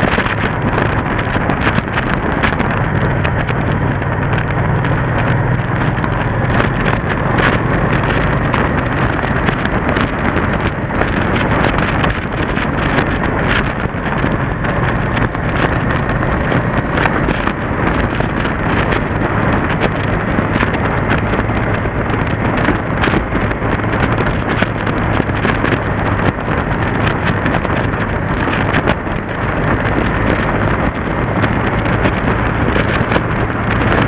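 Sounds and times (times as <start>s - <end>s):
motorcycle engine running: 0.0s - 34.0s
wind noise on microphone: 0.0s - 34.0s.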